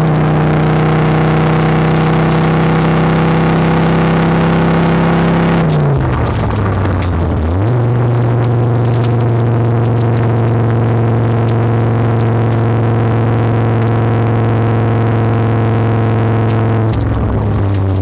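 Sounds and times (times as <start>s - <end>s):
gravel ticking under truck: 0.0s - 18.0s
truck engine and exhaust drone: 0.0s - 18.0s.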